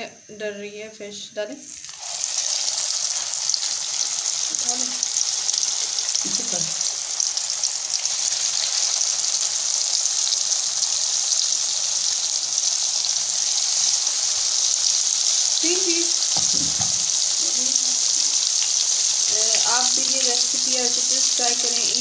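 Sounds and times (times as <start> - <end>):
fish deep-frying in oil: 1.7 - 22.0.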